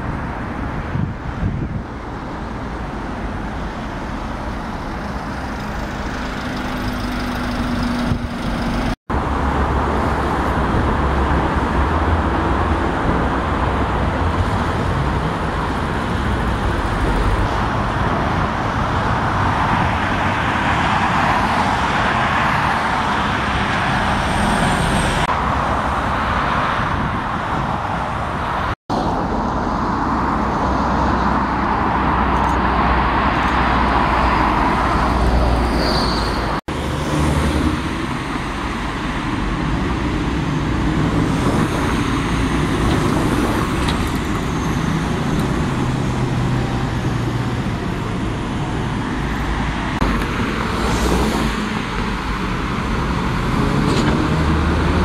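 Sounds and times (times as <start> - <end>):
buses running past: 0.0 - 55.0
road traffic: 0.0 - 55.0.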